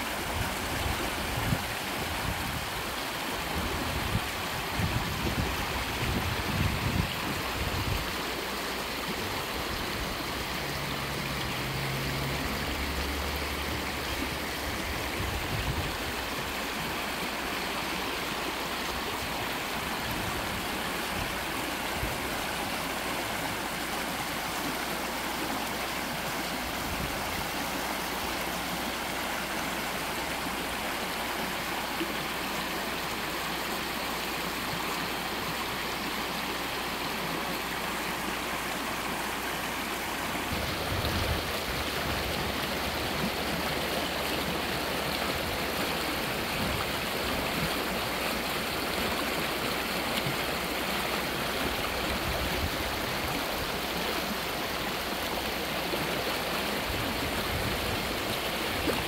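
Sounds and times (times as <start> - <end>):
stream babbling over stones: 0.0 - 59.0.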